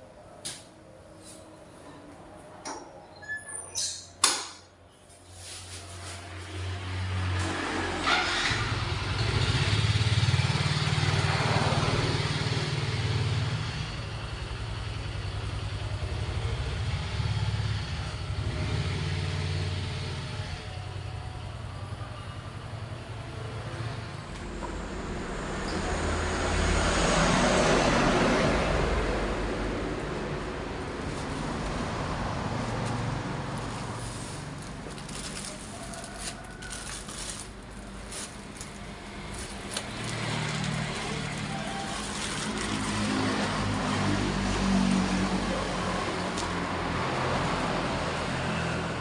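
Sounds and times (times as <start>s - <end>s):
vehicle engine starting and running: 6.4s - 49.0s.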